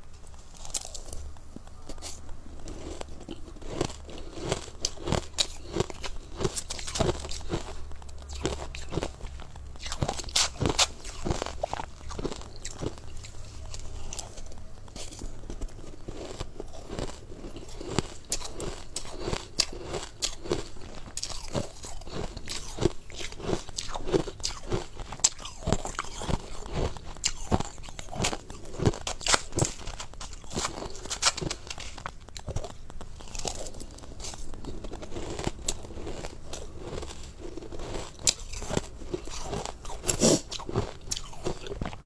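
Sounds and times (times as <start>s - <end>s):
chewing crushed ice: 0.2s - 42.0s.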